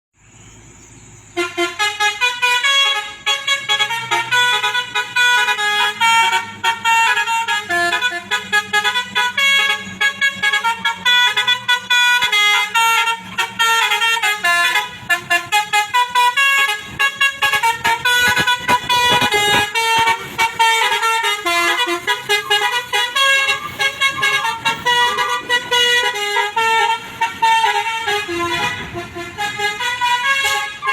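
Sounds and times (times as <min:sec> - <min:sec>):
truck musical horn melody: 0:01.3 - 0:30.9.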